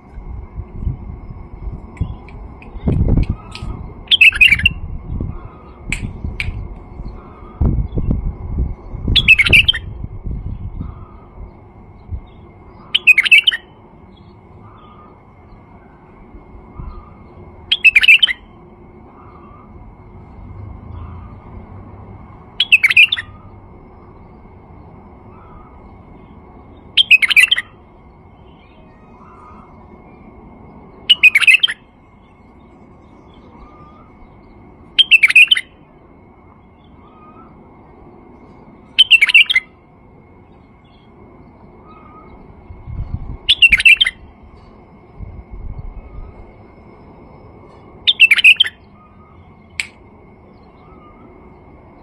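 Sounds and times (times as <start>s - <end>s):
bird singing song phrases: 1.8s - 21.6s, 22.5s - 44.8s, 45.6s - 52.0s.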